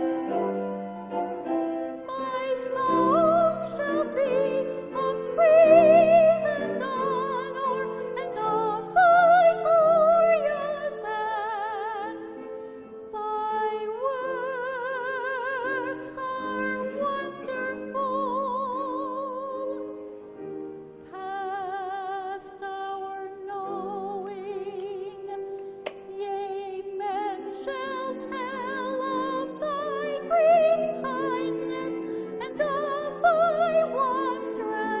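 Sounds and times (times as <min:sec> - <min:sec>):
person singing with operatic vibrato: 0:00.0 - 0:20.2, 0:21.0 - 0:35.0.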